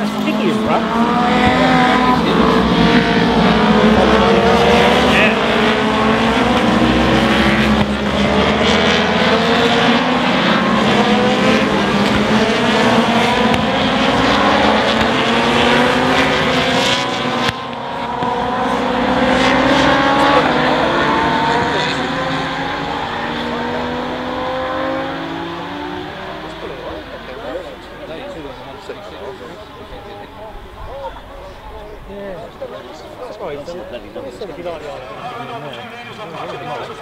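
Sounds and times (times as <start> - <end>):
racing motorcycle engines revving: 0.0 - 37.0.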